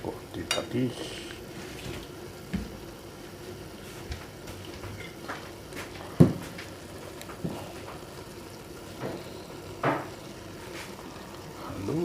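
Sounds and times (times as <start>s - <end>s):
food bubbling in a pan: 0.0s - 12.0s.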